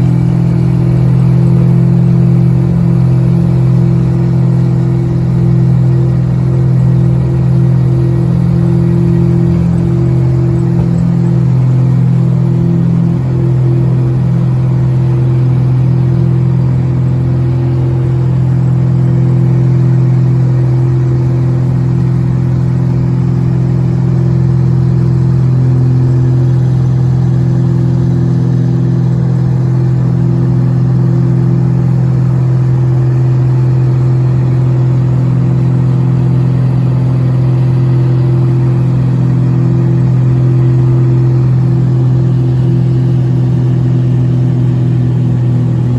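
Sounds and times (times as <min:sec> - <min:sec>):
propeller engines droning: 0:00.0 - 0:45.9.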